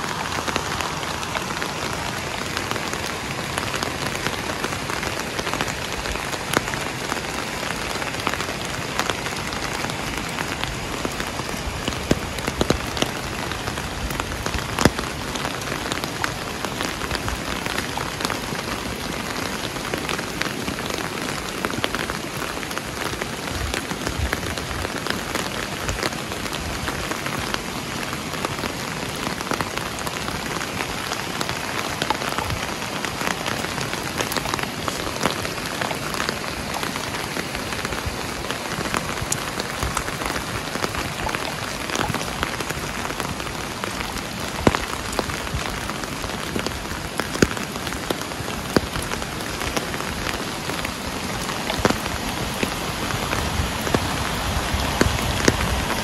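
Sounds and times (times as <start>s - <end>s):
rain hissing: 0.0s - 56.0s
raindrops pattering: 0.0s - 56.0s.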